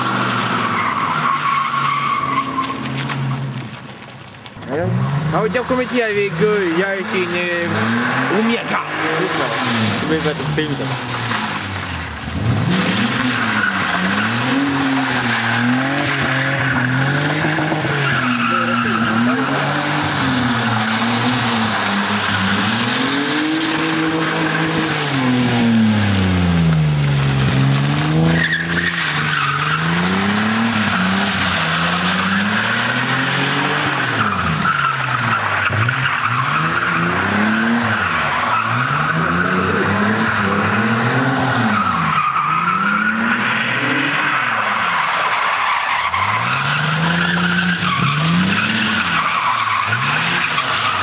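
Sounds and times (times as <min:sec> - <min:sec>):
tyres squealing: 0:00.4 - 0:03.5, 0:12.6 - 0:51.0
engine revving: 0:04.6 - 0:45.0, 0:46.0 - 0:51.0.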